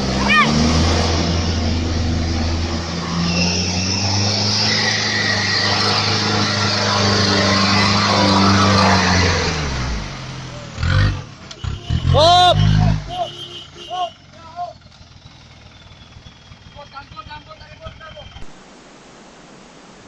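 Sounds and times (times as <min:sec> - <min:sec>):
vehicle engine running: 0:00.0 - 0:18.5.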